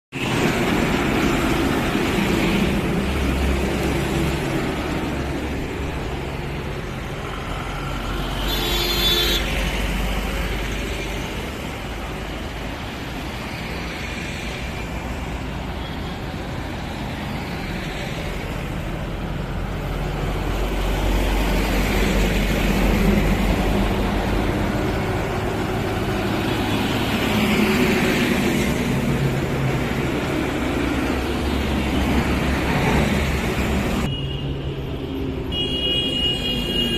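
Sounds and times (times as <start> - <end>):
highway traffic rumble: 0.1 - 36.9.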